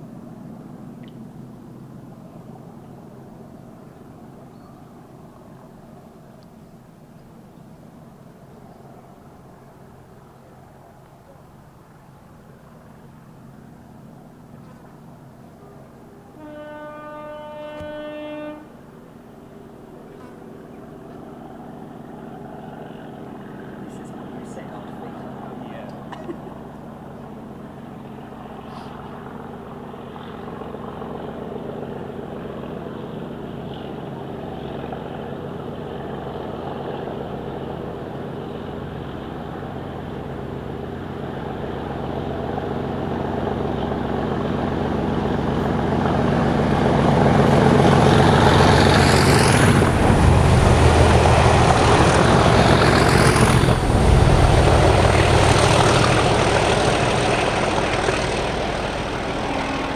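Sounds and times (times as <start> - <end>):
diesel train engine hum: 0.0 - 59.9
wheel and rail noise: 0.0 - 59.9.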